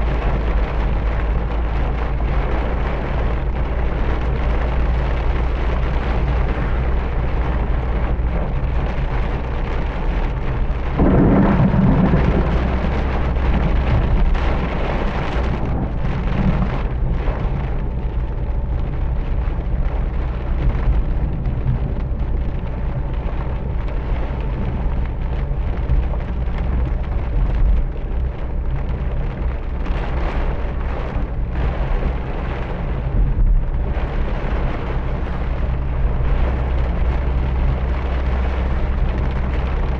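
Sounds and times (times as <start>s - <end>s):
deep thunder rumble: 0.0s - 39.9s
heavy rain: 0.0s - 39.9s.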